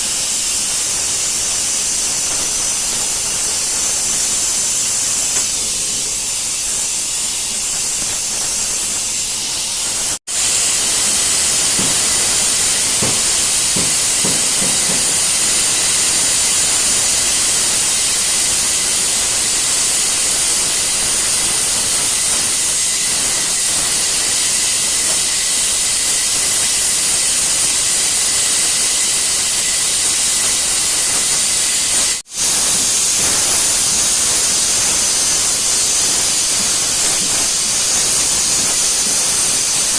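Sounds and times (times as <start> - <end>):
welding hiss and sizzle: 0.0 - 39.9.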